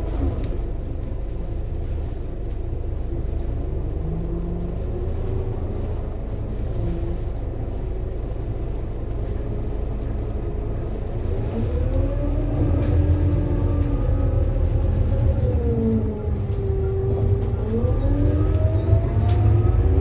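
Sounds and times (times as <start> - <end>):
bus diesel engine: 0.0 - 20.0.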